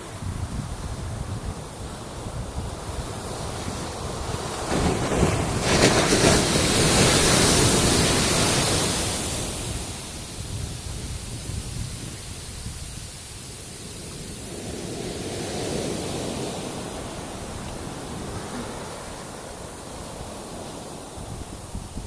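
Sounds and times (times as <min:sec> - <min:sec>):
wave breaking on beach: 0:00.0 - 0:22.0
wind rumbling on microphone: 0:00.0 - 0:22.0.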